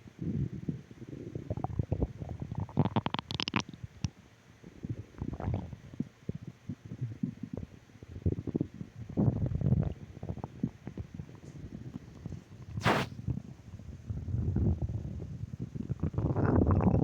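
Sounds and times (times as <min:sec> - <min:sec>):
stomach growling and gurgling: 0:00.2 - 0:04.1, 0:04.7 - 0:13.4, 0:14.1 - 0:17.0.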